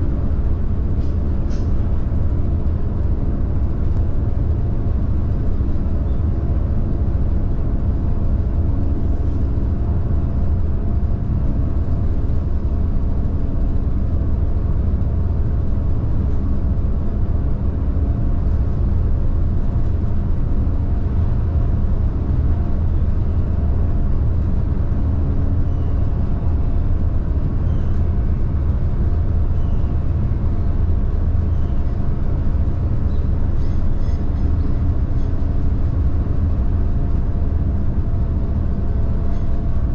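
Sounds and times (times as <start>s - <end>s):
ship engines droning: 0.0s - 39.9s.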